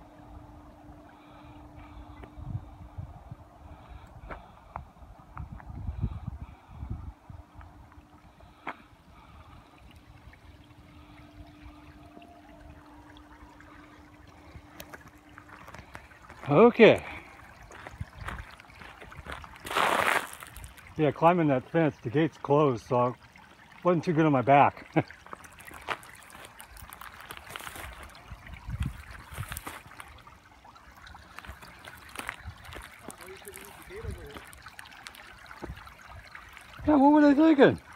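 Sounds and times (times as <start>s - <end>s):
creek trickling over rocks: 0.0s - 37.9s
faint steady hum: 0.0s - 37.9s.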